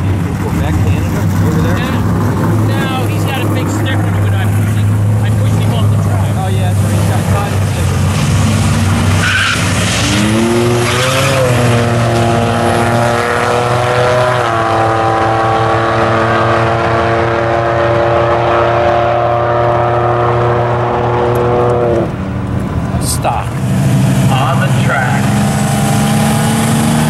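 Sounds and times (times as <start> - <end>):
drag cars accelerating hard: 0.0 - 27.0.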